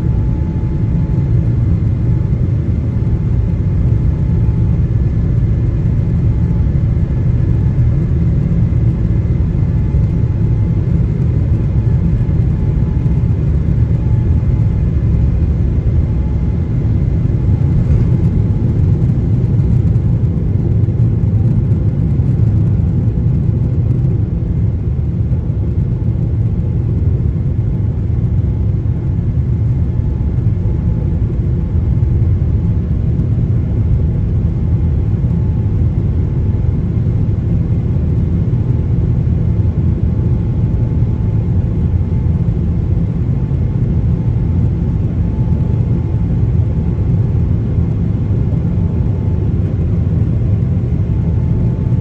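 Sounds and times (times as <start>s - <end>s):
faint engine whine: 0.0s - 52.0s
jet engines rumbling at takeoff: 0.0s - 52.0s.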